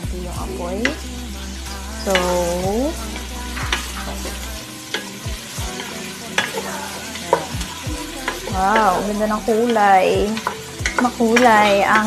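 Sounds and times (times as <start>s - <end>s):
vegetables sizzling in a pot: 0.0s - 12.0s
utensil scraping metal pot: 0.4s - 12.0s.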